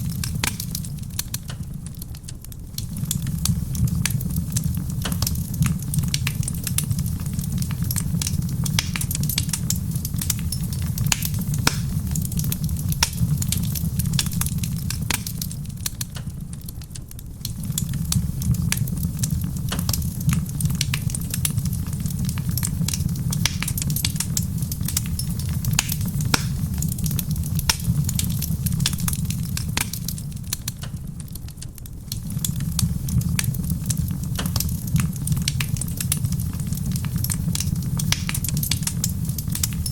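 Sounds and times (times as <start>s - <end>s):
rain pattering: 0.0s - 39.9s
wood fire crackling and popping: 0.0s - 39.9s.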